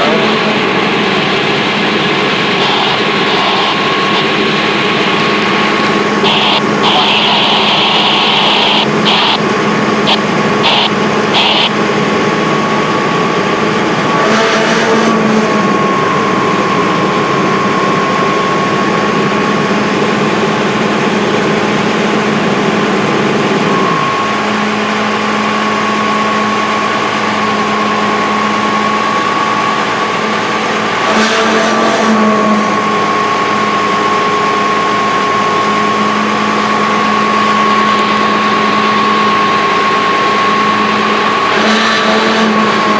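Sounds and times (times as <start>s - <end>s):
diesel engine and pump running: 0.0s - 42.9s
pump whine: 0.0s - 42.9s.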